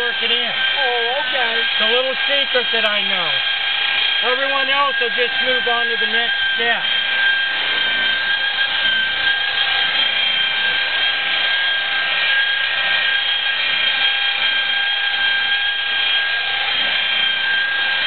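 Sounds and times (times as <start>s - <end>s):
electric polisher whining: 0.0s - 18.0s.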